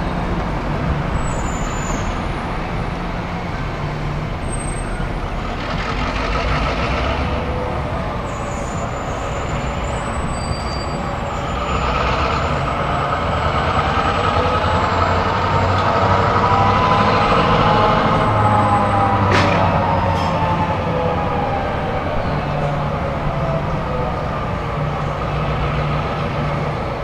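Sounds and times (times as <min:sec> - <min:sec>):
diesel locomotive engine running: 0:00.0 - 0:27.0.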